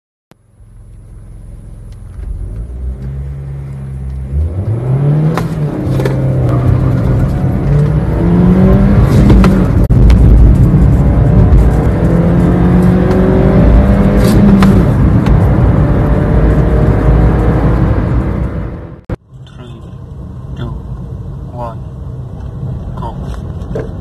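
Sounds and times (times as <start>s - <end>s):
car engine accelerating: 0.5s - 21.4s.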